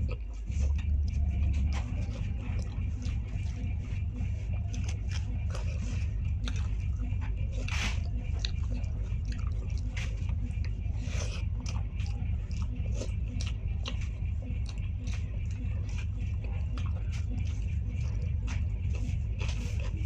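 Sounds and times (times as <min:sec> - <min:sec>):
low hum: 0:00.0 - 0:20.0
mouth chewing food: 0:00.0 - 0:20.0
wet mouth clicks and smacks: 0:00.0 - 0:20.0.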